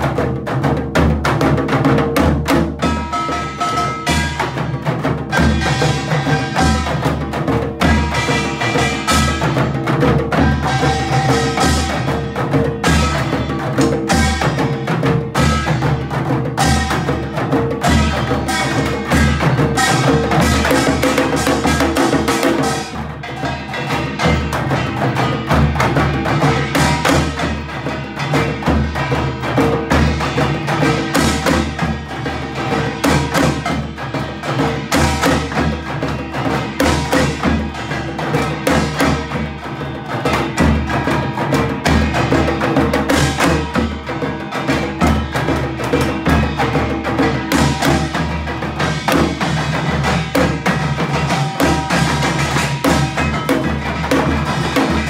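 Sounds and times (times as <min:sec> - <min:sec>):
barrel drum beaten with stick: 0:00.0 - 0:55.0
frame drums struck with sticks: 0:00.0 - 0:55.0.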